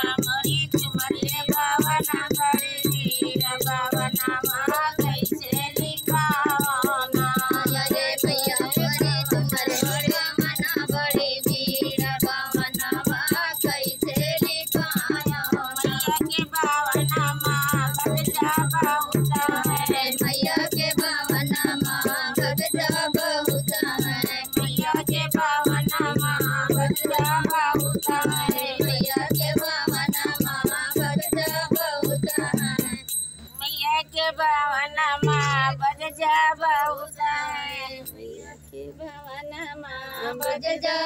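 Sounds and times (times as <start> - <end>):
rattling percussion beat: 0.0 - 33.8, 35.2 - 41.0
women singing together: 0.0 - 41.0.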